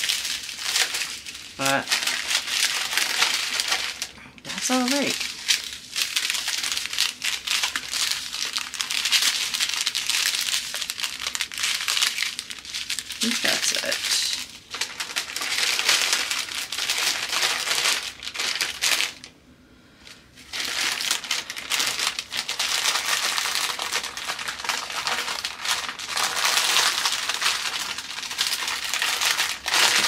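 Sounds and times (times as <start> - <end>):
plastic bags crinkling: 0.0 - 19.3, 20.0 - 30.0.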